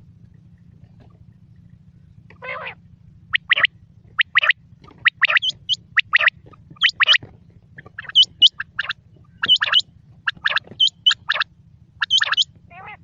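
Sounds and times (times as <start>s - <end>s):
quail calling: 2.3s - 13.0s.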